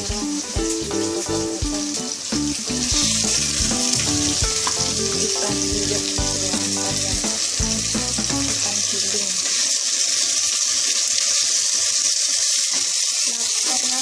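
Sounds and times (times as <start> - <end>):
aromatics sizzling in hot oil: 0.0 - 14.0.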